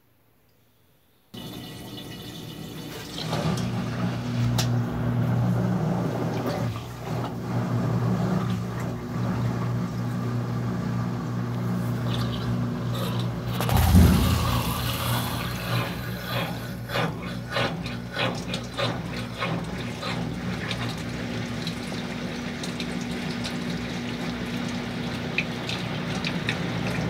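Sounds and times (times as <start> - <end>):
washing machine motor hum: 1.4 - 27.0
water sloshing and laundry churning: 1.4 - 27.0.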